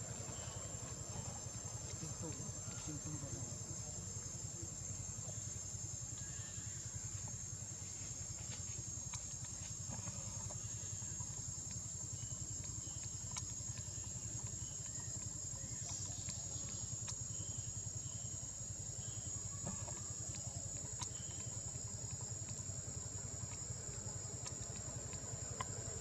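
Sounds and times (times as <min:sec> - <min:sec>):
insect drone: 0:00.0 - 0:26.0.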